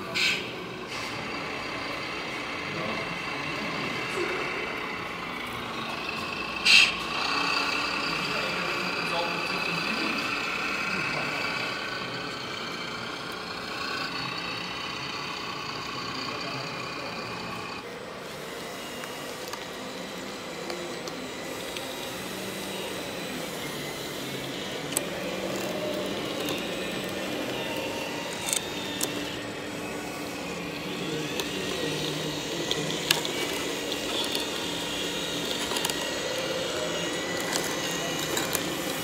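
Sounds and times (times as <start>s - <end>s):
model electric drive whirring: 0.0s - 39.0s.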